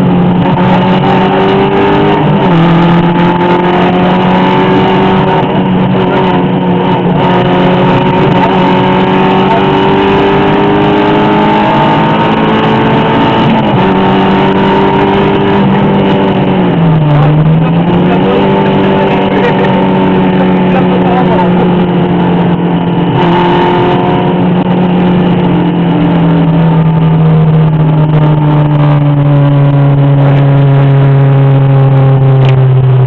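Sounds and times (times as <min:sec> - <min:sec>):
rally car engine at high revs: 0:00.0 - 0:33.0.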